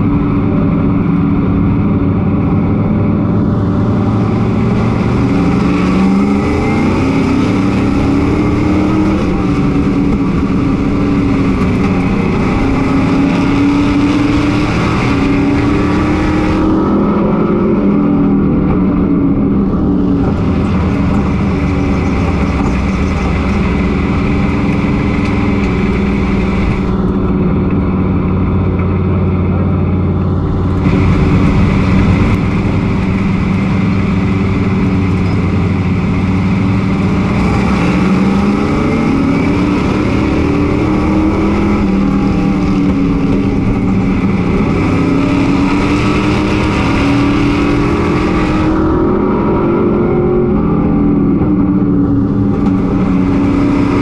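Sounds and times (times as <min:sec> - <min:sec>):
truck engine at racing speed: 0:00.0 - 0:54.0.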